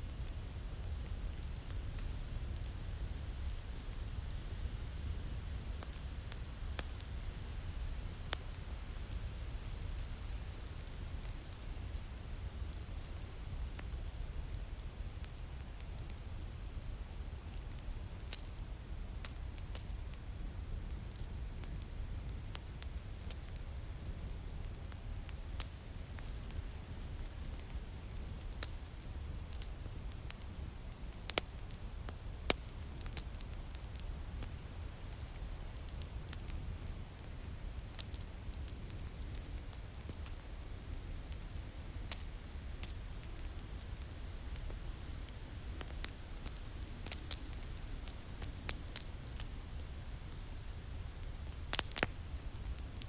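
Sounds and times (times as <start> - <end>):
low rumble of wind: 0.0 - 53.0
wood fire crackling and popping: 0.0 - 53.0.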